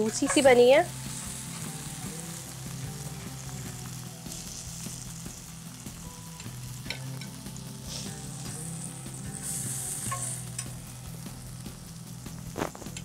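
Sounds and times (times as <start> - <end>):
meat sizzling in a grill pan: 0.0 - 13.0.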